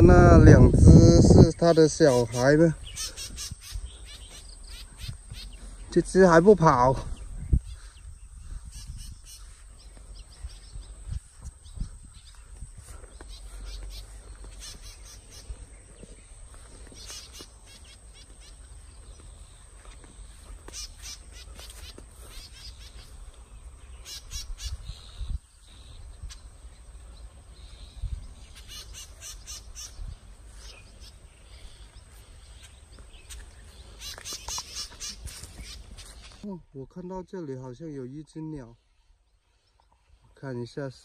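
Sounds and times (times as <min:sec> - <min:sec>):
small birds calling: 0:00.0 - 0:41.0.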